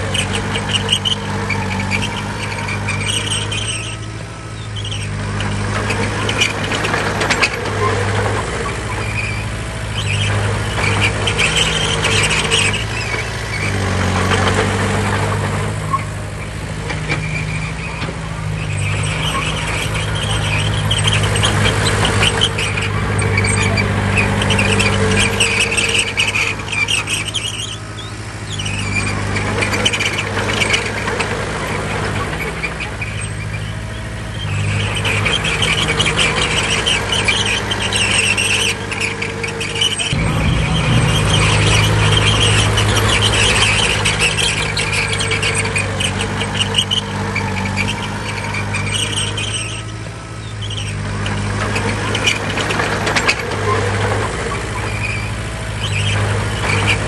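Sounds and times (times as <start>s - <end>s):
heavy diesel machinery engine: 0.0s - 57.0s
metallic squeal and clatter: 0.0s - 57.0s.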